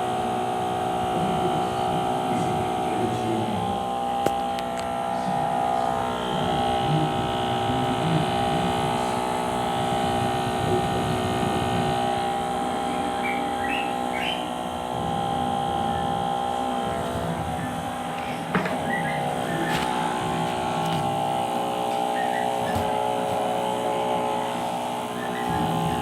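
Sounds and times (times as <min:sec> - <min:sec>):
small fan motor humming: 0:00.0 - 0:26.0.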